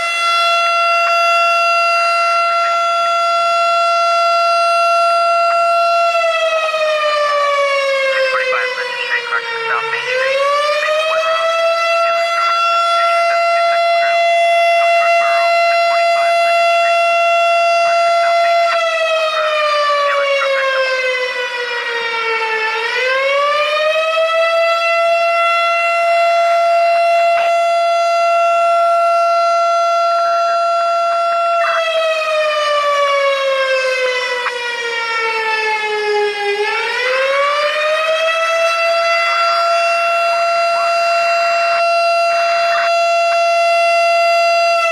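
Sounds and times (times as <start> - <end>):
air raid siren: 0.0 - 44.9.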